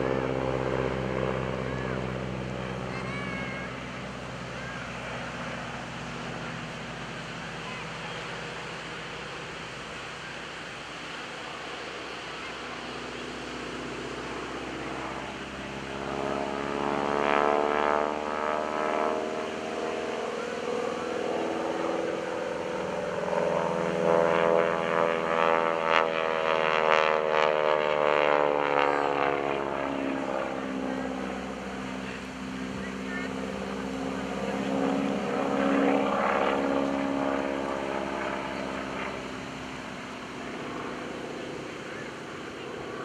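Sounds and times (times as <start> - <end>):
radial aircraft engine and propeller: 0.0 - 43.0.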